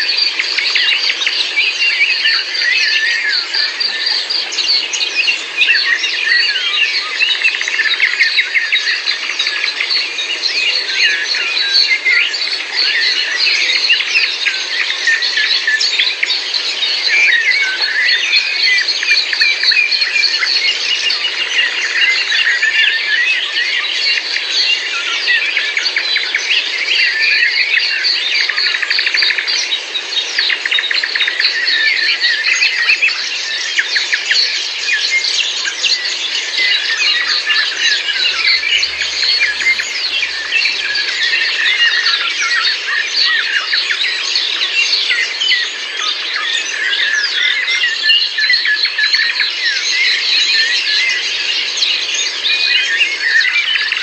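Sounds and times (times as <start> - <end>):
songbirds chorus: 0.0 - 54.0.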